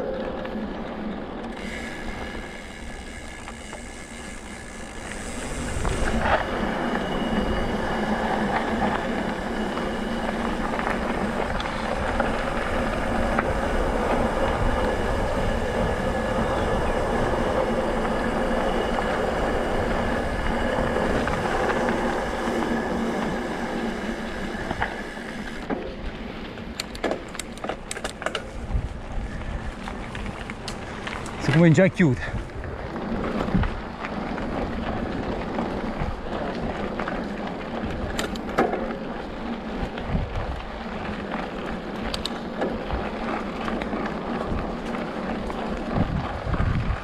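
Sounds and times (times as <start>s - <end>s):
bike rattling over bumps: 0.0s - 47.0s
bike tyres on gravel: 0.0s - 47.0s.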